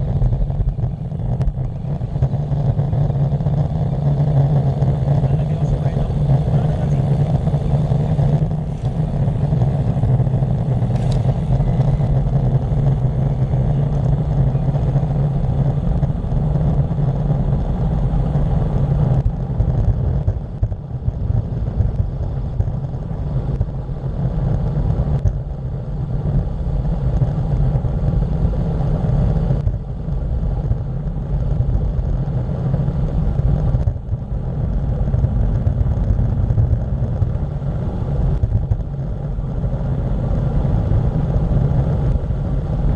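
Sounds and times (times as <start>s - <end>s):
tyre noise on asphalt: 0.0s - 42.9s
wind rumble on microphone: 0.0s - 42.9s.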